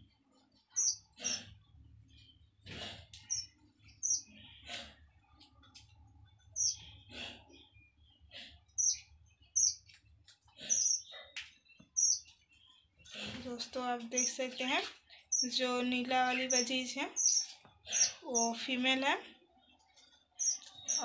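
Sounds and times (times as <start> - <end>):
cage birds chirping: 0.0 - 21.0.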